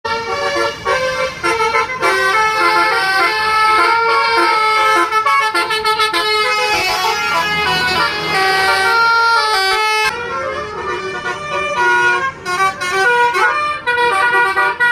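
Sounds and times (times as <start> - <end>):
musical air horn playing a tune: 0.1 - 14.9.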